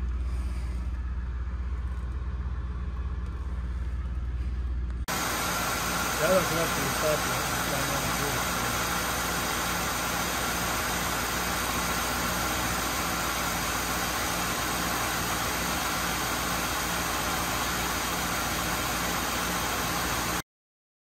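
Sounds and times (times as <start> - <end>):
car engine idling: 0.0 - 20.4.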